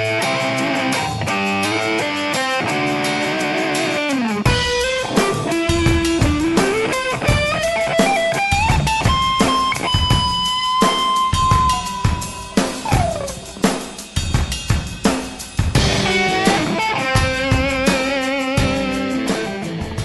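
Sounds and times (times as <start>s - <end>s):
sliding lead guitar: 0.0s - 14.0s, 15.8s - 20.0s
rock guitar playing: 0.0s - 14.9s, 15.6s - 20.0s
drums: 0.0s - 20.0s.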